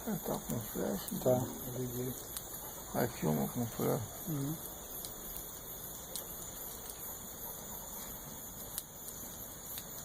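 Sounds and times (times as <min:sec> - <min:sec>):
bonfire crackling and hissing: 0:00.0 - 0:10.0
fire popping: 0:00.0 - 0:10.0.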